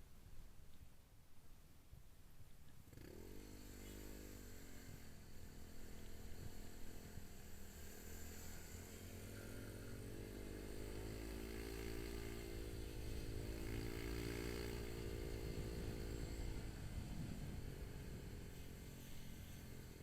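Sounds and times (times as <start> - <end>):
motorcycle engine running: 2.8 - 20.0.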